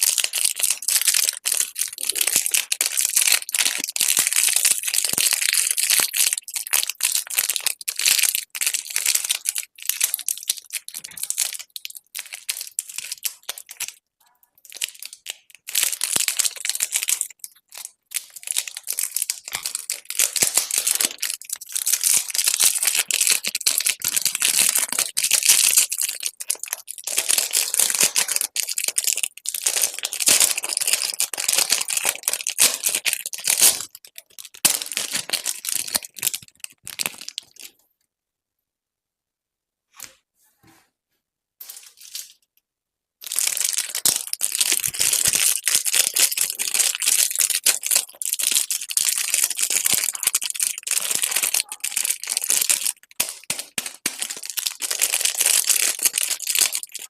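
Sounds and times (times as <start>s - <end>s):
candy wrappers crinkling: 0.0s - 14.0s, 14.6s - 37.8s, 41.6s - 42.5s, 43.2s - 57.0s.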